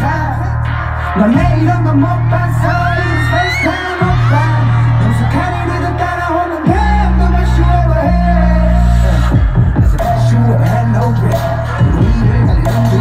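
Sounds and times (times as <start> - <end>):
heavy bass line: 0.0 - 13.0
man singing: 0.0 - 13.0.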